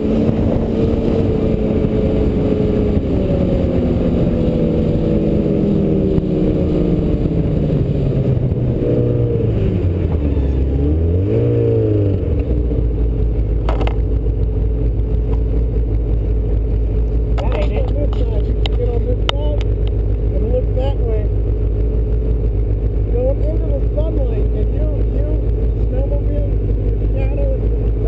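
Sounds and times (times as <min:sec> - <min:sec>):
snowmobile engine: 0:00.0 - 0:28.0.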